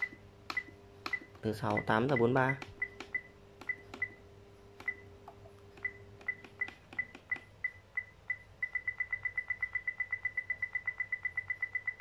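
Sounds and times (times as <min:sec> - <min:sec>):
button beeps with clicks: 0:00.0 - 0:04.2, 0:04.8 - 0:05.1, 0:05.8 - 0:12.0.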